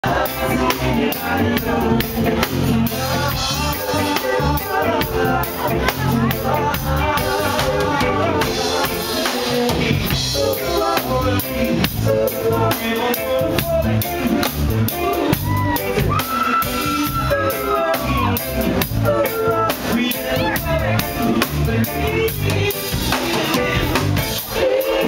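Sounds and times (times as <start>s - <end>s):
drum-kit beat: 0.0s - 25.0s
keyboard: 0.0s - 25.0s
lead vocal singing: 0.0s - 25.0s
reggae band playing: 0.0s - 25.0s.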